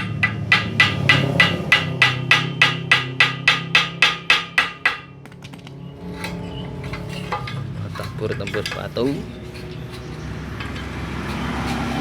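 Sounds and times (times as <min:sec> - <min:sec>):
hammer striking metal: 0:00.0 - 0:12.0.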